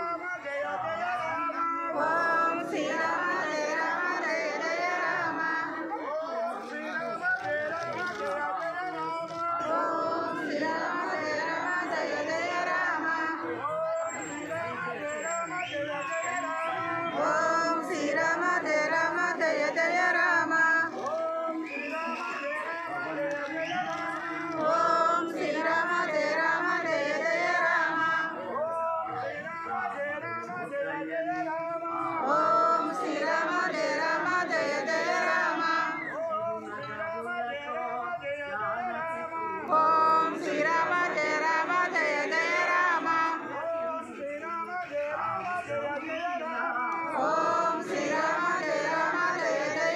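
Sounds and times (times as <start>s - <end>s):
men and women singing in chorus: 0.0s - 6.2s, 9.2s - 15.0s, 16.4s - 23.0s, 24.0s - 28.7s, 29.9s - 38.8s, 39.6s - 49.9s.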